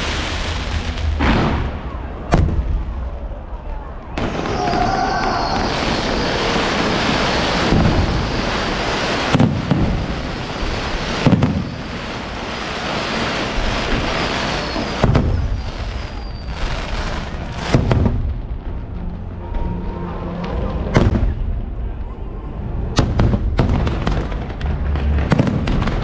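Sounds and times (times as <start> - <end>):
firework booms: 0.0 - 3.5, 4.2 - 18.8, 20.9 - 21.6, 23.0 - 26.0
crackling hiss of fireworks: 0.0 - 19.3, 23.0 - 26.0.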